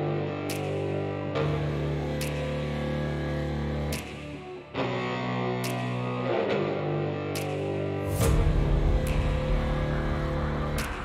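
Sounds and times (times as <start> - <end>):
guitar chords: 0.0 - 11.0.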